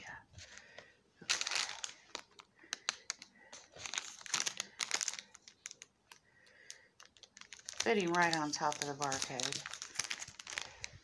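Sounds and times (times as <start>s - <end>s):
plastic packets crinkling: 0.5s - 11.0s.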